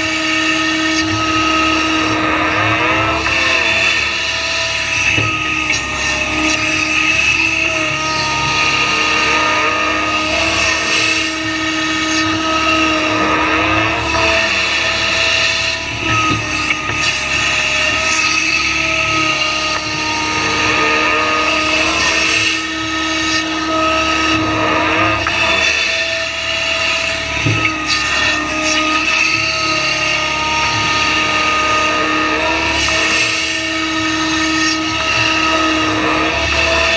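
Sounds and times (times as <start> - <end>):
hydraulic whine: 0.0 - 36.9.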